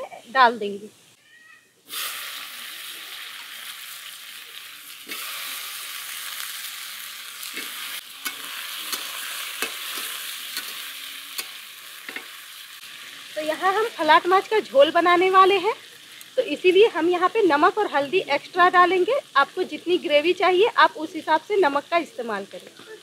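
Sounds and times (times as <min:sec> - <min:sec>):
potatoes sizzling in oil: 0:01.8 - 0:23.0.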